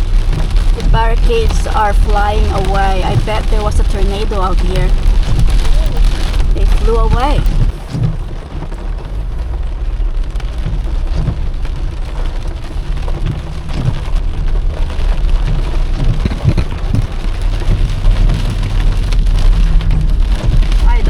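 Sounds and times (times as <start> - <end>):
heavy rain pelting a car: 0.0 - 21.0
low rumble: 0.0 - 21.0.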